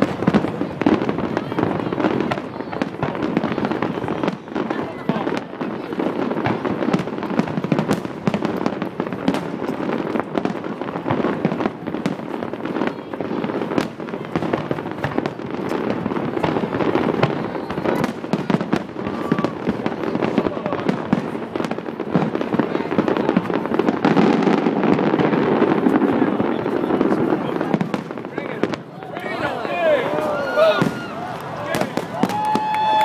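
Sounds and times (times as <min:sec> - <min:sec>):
fireworks booming and crackling: 0:00.0 - 0:33.0.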